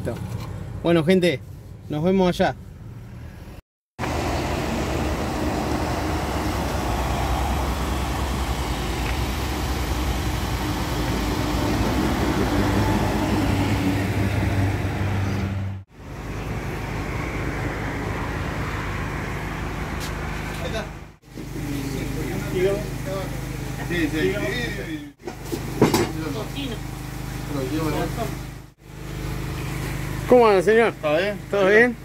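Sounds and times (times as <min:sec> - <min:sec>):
road traffic noise: 0:00.0 - 0:32.0
vehicle engine rumble: 0:00.0 - 0:32.0.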